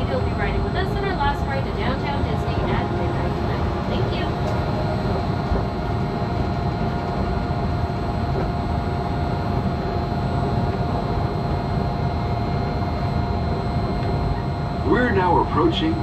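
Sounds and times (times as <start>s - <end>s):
electric drive whine: 0.0s - 16.0s.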